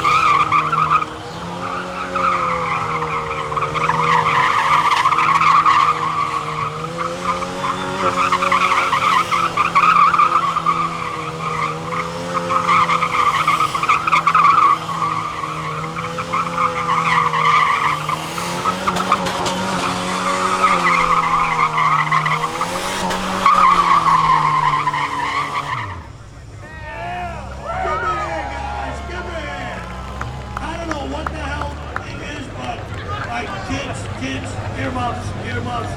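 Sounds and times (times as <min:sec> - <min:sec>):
car engine at high revs: 0:00.0 - 0:35.9
tyres squealing: 0:00.0 - 0:35.9.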